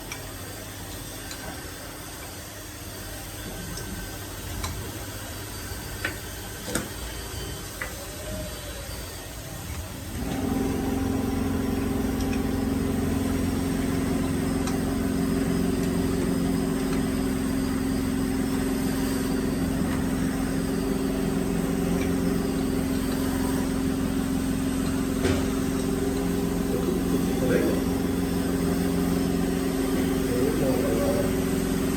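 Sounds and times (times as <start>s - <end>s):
drilling machine motor humming: 0.5s - 31.9s.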